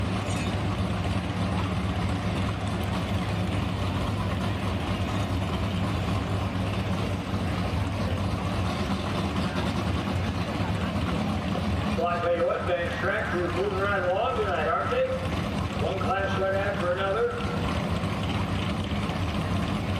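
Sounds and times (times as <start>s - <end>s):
truck engine running: 0.0s - 19.9s.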